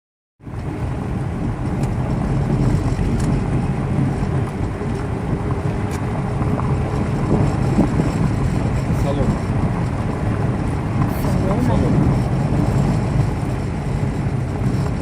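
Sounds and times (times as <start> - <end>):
vehicle driving rumble: 0.4 - 15.0.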